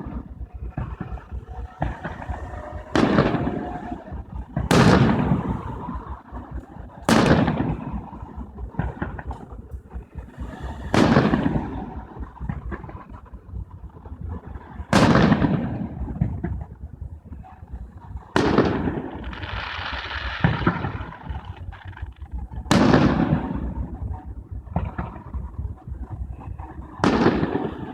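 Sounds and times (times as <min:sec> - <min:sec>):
fireworks booming with echo: 0:00.0 - 0:27.9.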